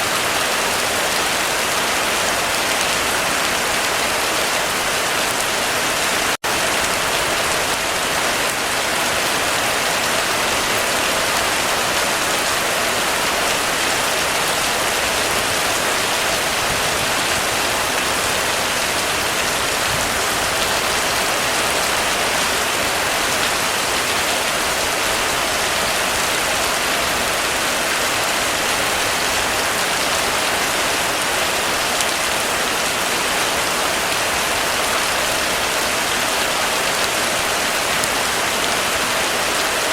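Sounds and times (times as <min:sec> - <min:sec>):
heavy rain drumming on a roof: 0:00.0 - 0:39.9.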